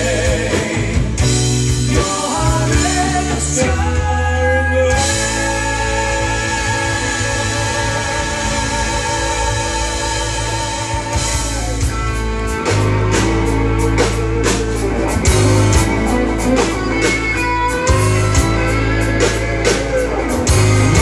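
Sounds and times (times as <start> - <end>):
drums and bass beat: 0.0 - 21.0
guitar lines: 0.0 - 21.0.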